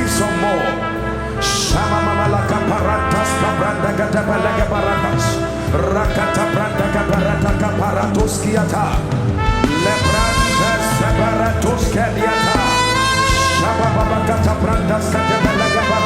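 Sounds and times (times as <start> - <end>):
brass horns holding long notes: 0.0 - 16.0
live worship band music: 0.0 - 16.0.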